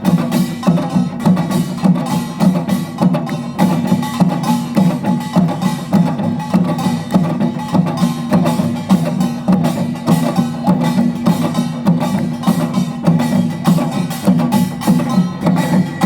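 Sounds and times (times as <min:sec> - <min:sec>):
percussion ensemble gongs and drums: 0:00.0 - 0:16.0.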